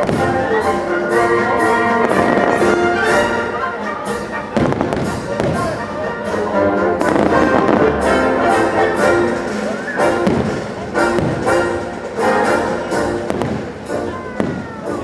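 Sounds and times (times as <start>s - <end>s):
fireworks bangs: 0.0s - 0.7s, 3.6s - 15.0s
orchestral brass music: 0.0s - 15.0s.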